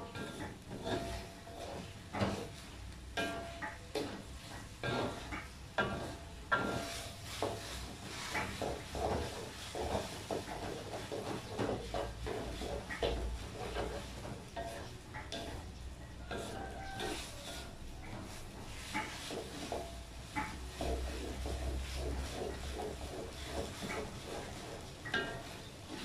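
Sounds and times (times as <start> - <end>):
food sizzling: 0.0 - 26.0
spatula scraping a wok: 0.0 - 26.0.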